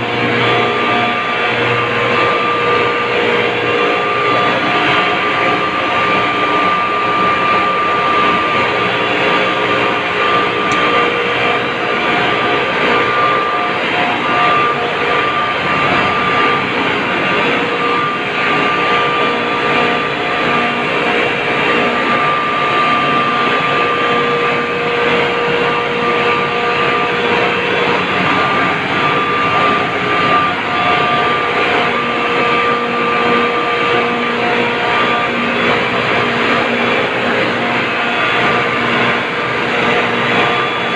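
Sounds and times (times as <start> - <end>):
refrigeration machinery drone: 0.0 - 40.9
steady whining tones: 0.0 - 40.9.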